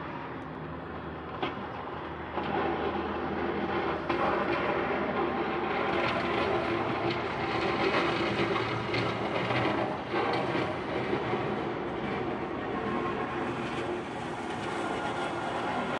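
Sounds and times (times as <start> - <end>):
mechanical rumble: 0.1 - 15.9.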